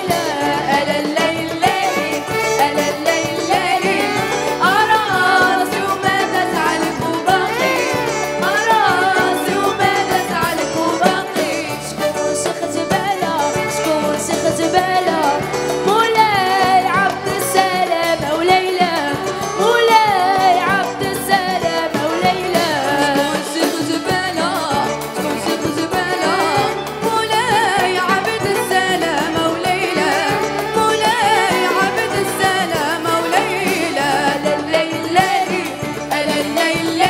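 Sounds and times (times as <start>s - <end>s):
instrumental accompaniment: 0.0s - 37.0s
women singing into microphones: 0.0s - 37.0s.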